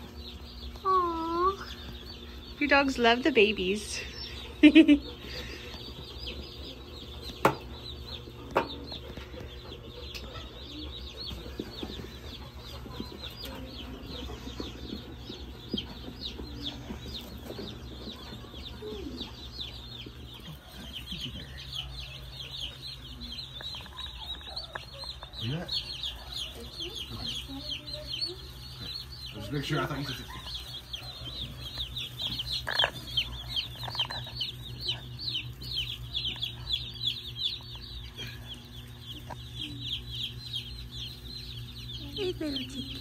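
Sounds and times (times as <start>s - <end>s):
baby chicks peeping: 0.0s - 43.0s
steady low hum: 0.0s - 43.0s.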